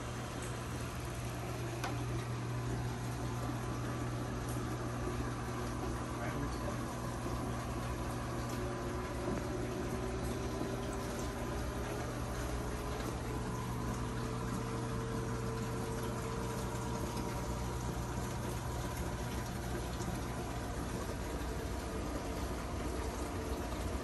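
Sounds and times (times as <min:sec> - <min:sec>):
pump hum: 0:00.0 - 0:24.0.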